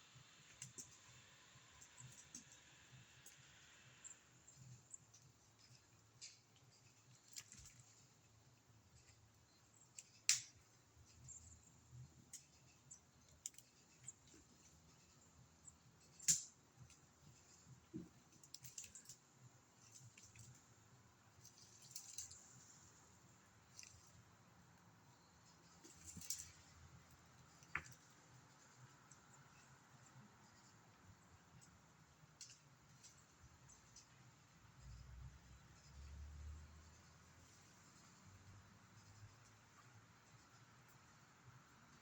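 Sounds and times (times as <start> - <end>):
faint clicks and rustles: 0.1 - 42.0.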